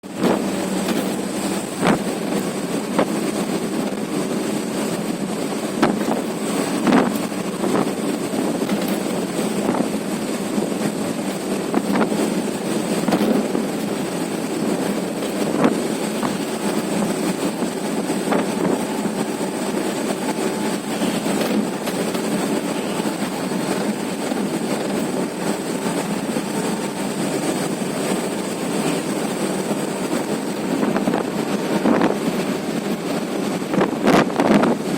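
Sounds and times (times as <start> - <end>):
truck driving on highway: 0.0 - 34.9.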